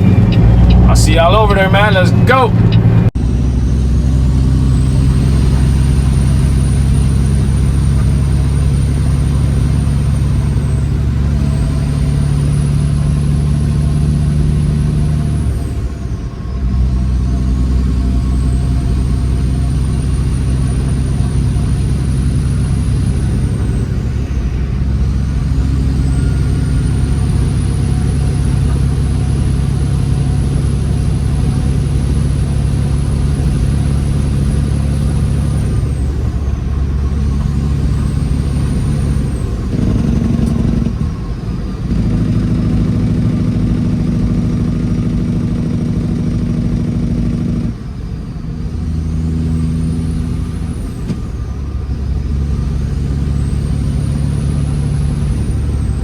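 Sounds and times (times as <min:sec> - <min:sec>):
turbocharger whistle: 0:00.0 - 0:45.8
diesel truck engine under load: 0:00.0 - 0:56.0.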